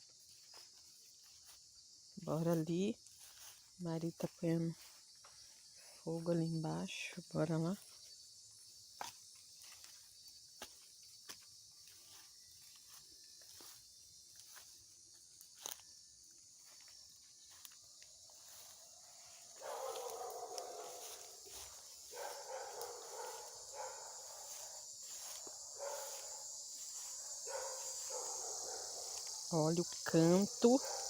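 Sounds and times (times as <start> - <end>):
cicadas high buzz: 0.0 - 31.0
lower cicada song: 0.0 - 31.0.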